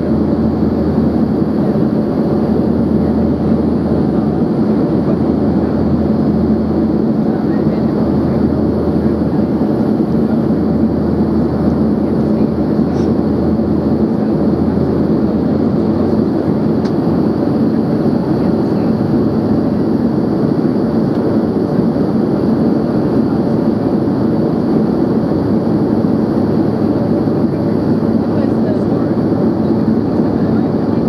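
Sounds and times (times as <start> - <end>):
jet cabin roar: 0.0 - 31.0
low hum: 0.0 - 31.0.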